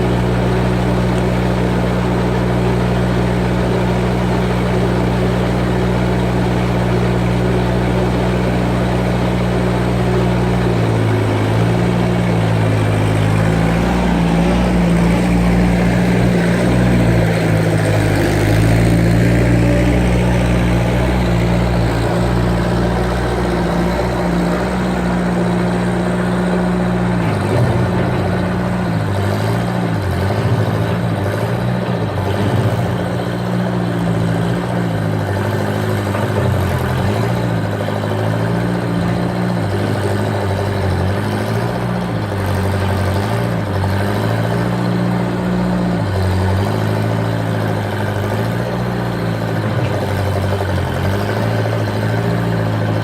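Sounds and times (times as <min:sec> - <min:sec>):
skid steer engine running: 0:00.0 - 0:53.0.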